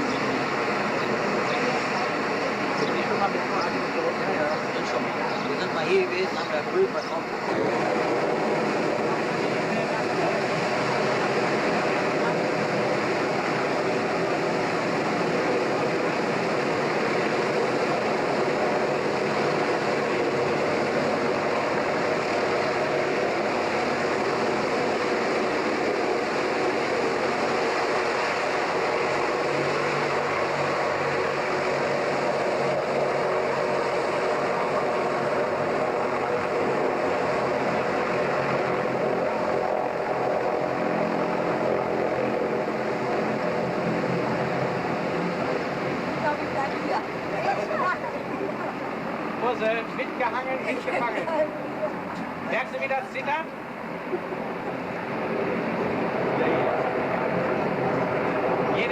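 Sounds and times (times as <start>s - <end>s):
ferry engine drone: 0.0s - 58.9s.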